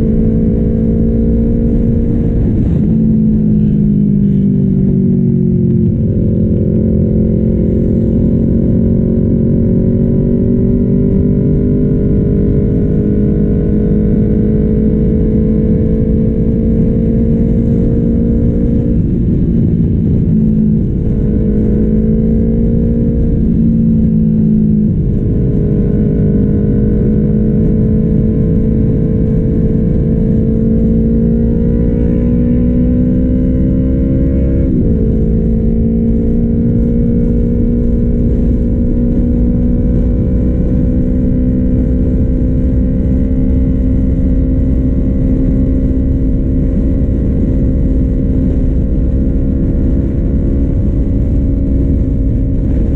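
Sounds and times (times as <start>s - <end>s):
motorcycle engine running: 0.0s - 52.9s
wind noise: 0.0s - 52.9s.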